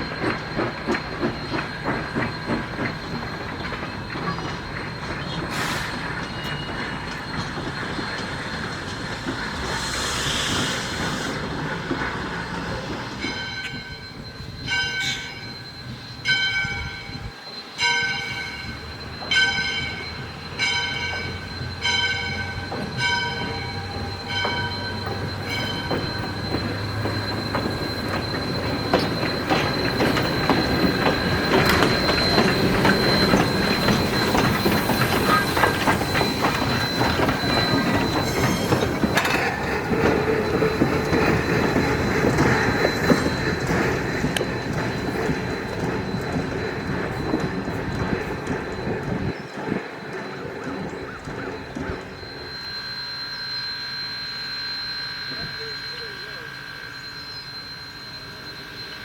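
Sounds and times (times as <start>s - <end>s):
train wheels clattering on rail: 0.0s - 52.8s
locomotive bell ringing: 0.0s - 59.0s
thin steady squeal: 0.0s - 59.0s.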